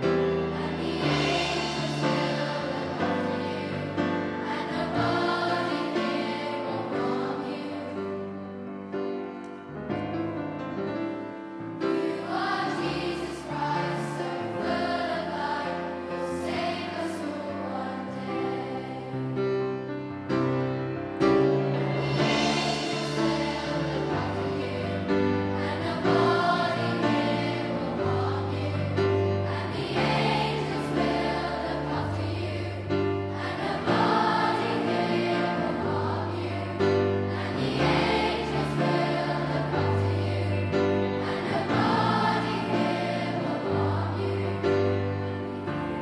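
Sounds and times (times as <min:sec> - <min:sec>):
children's choir singing: 0:00.0 - 0:08.6, 0:11.8 - 0:20.0, 0:21.3 - 0:46.0
instrumental accompaniment: 0:00.0 - 0:46.0.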